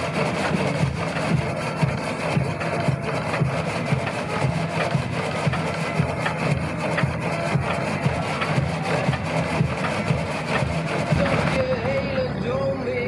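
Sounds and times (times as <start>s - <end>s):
saw blade rasping through wood: 0.0s - 11.8s
low regular pulsing: 0.0s - 13.0s.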